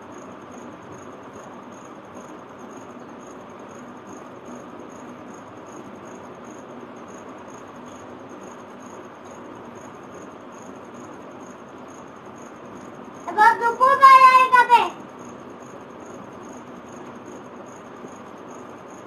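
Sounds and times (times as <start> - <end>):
insect chirping: 0.0 - 19.0
room hiss: 0.0 - 19.0.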